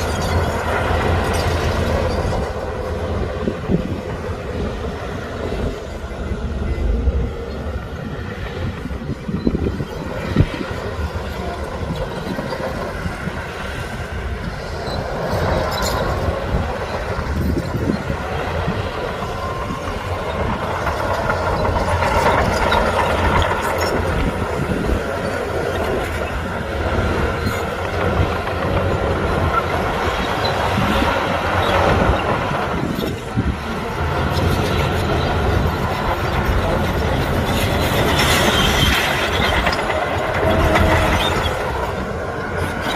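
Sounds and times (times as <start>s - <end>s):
diesel engine under load: 0.0s - 42.9s
steel tracks clanking and squealing: 0.0s - 42.9s.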